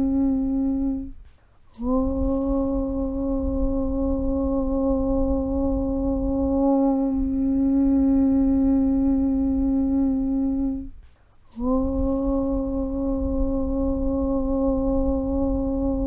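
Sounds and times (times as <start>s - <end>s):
chanted humming drone: 0.0s - 16.0s
low rumble: 0.0s - 16.0s.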